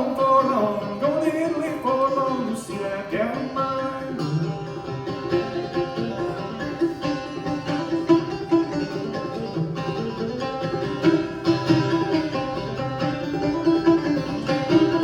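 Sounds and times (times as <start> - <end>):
clawhammer banjo playing: 0.0 - 15.0.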